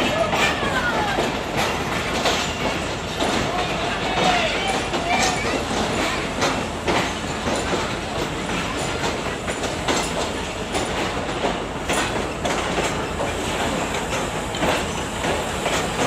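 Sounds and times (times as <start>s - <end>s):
train rumble: 0.0s - 16.0s
wheels clattering over rail joints: 0.0s - 16.0s.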